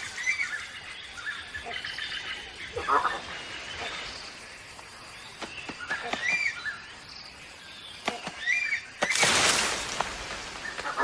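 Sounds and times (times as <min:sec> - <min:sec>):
bird chirping: 0:00.0 - 0:09.2.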